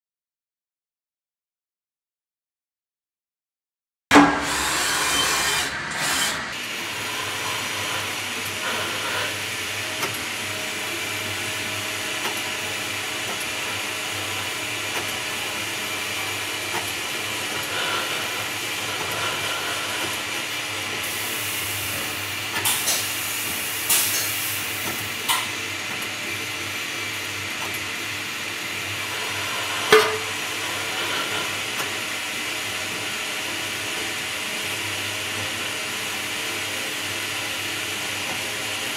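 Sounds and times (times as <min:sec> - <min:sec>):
milling machine whirring: 0:04.1 - 0:38.9.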